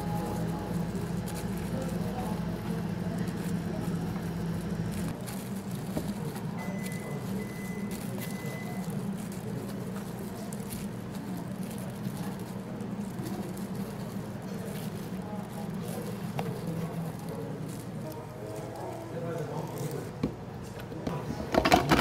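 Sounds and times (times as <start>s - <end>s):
cafe equipment humming: 0.0s - 22.0s.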